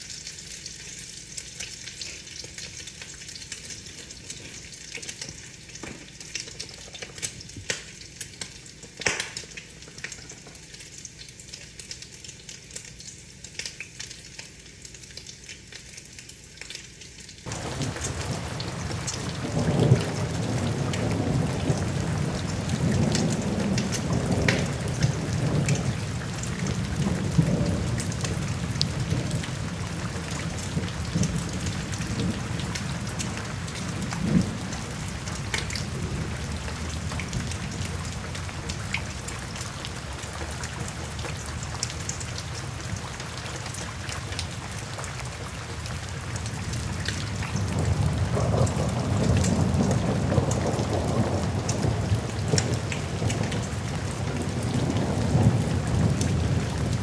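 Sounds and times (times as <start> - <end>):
rain on a window: 0.0 - 57.0
raindrop taps: 1.6 - 14.5, 17.4 - 45.6, 46.6 - 57.0.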